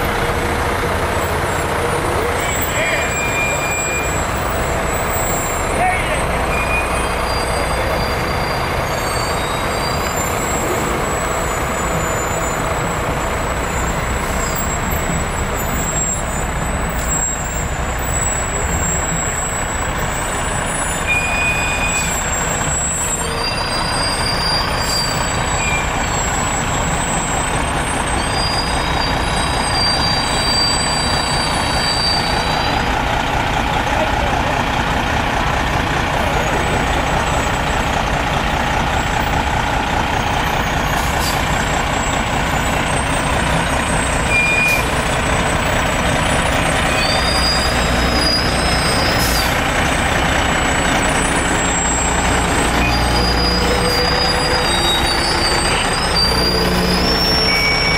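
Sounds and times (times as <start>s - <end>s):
fire truck engines running: 0.0s - 57.9s.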